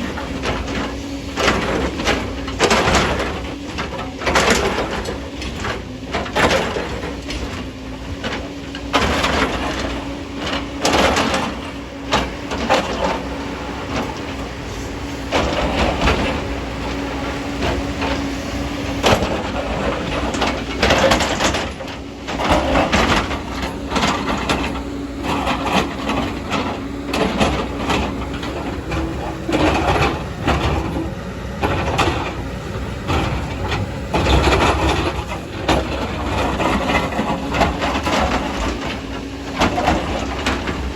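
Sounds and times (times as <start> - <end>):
excavator engine hum: 0.0 - 40.9.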